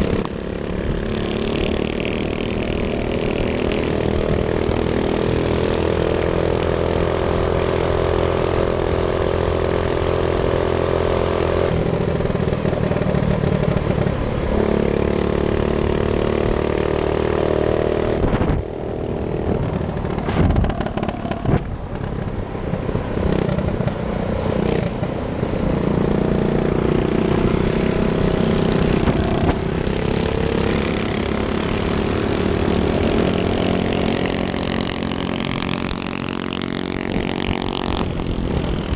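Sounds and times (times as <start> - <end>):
minibike engine running: 0.0 - 38.9.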